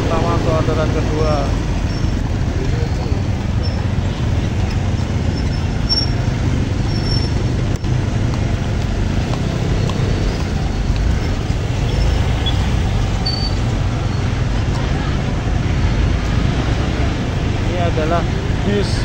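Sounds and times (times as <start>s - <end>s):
bus engine: 0.0s - 19.0s
motorbike engine: 0.0s - 19.0s
street traffic rumble: 0.0s - 19.0s.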